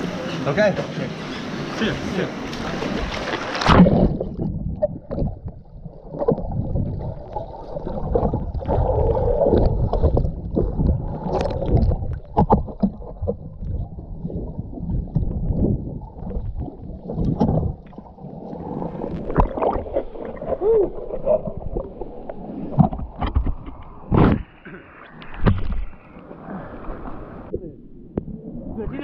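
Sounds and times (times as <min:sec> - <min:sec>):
underwater bubbling and swirling: 0:01.2 - 0:29.0.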